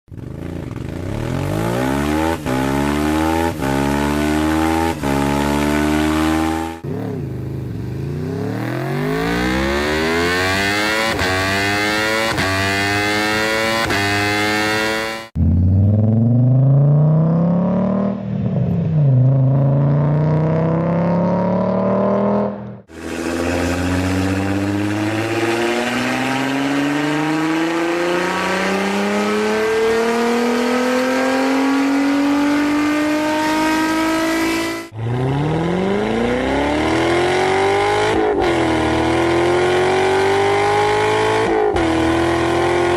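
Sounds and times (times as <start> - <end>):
engines accelerating hard: 0.2 - 42.9.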